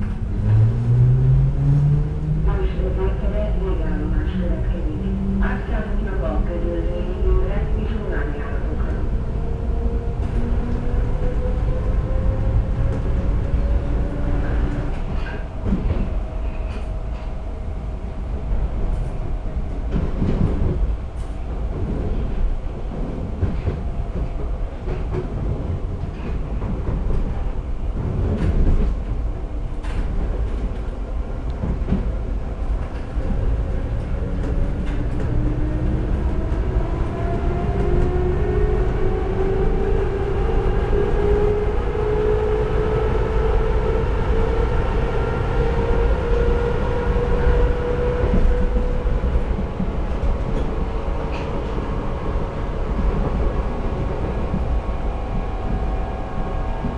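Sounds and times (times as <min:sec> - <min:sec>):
train rumbling in tunnel: 0:00.0 - 0:56.9.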